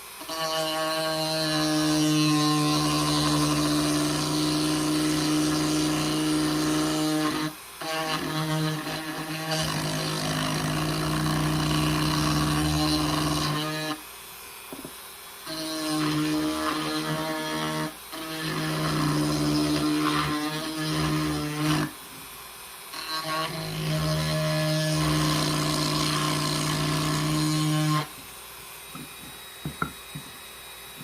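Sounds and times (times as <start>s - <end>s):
power tool running: 0.0s - 14.1s, 14.7s - 22.0s, 22.9s - 31.0s.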